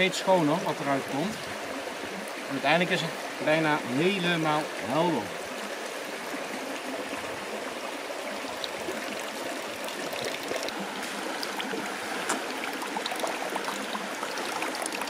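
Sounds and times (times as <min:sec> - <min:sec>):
stream running over stones: 0:00.0 - 0:15.0
water trickling and splashing: 0:00.0 - 0:15.0.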